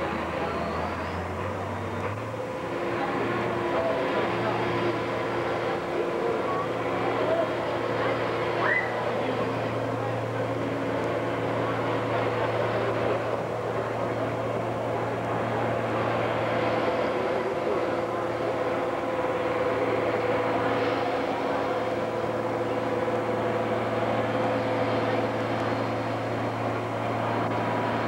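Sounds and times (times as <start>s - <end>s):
diesel tractor engine droning: 0.0s - 28.0s.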